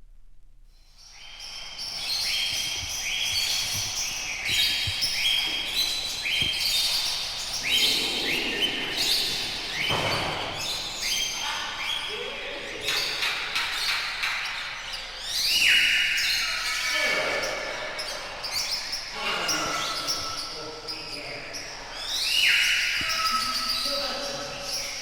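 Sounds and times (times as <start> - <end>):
birds chirping: 0.7 - 25.0.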